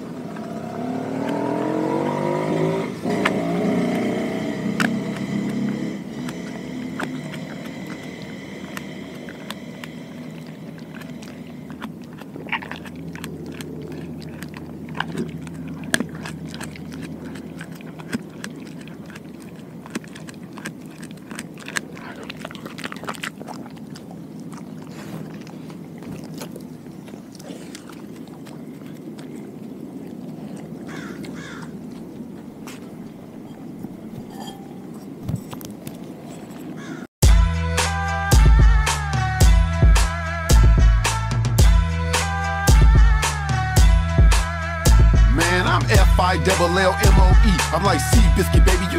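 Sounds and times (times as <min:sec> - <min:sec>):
dog chewing and crunching: 0:00.0 - 0:37.0, 0:41.6 - 0:48.9.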